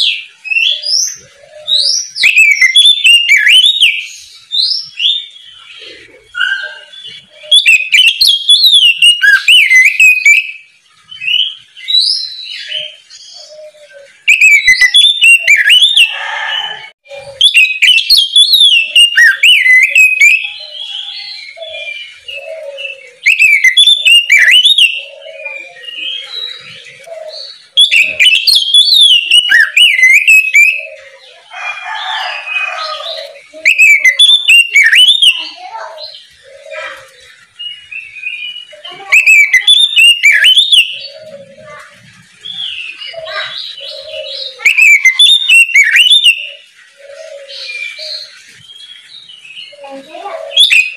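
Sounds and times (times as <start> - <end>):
bird singing whistles and trills: 0.0 - 31.4, 32.0 - 50.9.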